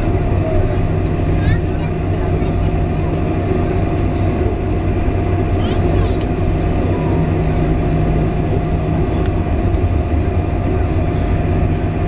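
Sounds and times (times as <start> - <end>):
jet engines idling: 0.0 - 12.0
wheels rolling on taxiway: 0.0 - 12.0.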